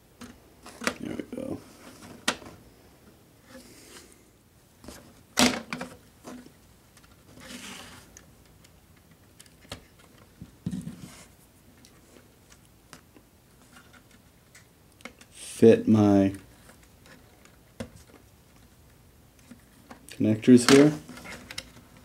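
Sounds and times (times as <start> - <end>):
soft rustle of handling: 0.2 - 5.2, 5.8 - 22.0.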